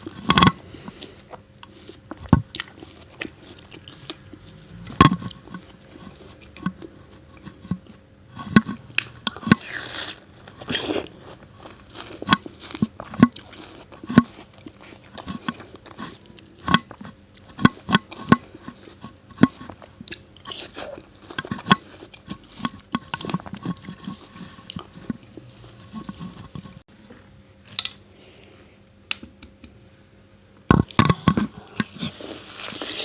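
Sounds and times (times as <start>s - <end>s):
watermelon crunching: 0.0s - 29.6s, 30.7s - 33.0s.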